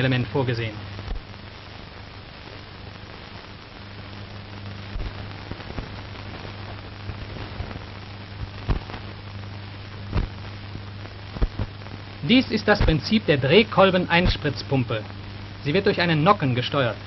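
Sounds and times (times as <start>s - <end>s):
crackles and pops: 0.0s - 17.0s
low mains hum: 0.0s - 17.0s
soundtrack hiss: 0.0s - 17.0s.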